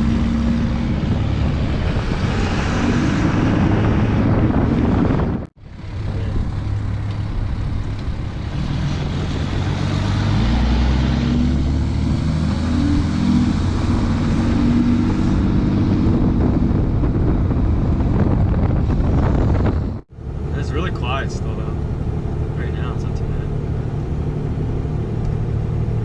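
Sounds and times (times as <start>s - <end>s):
diesel truck engine accelerating: 0.0s - 26.0s.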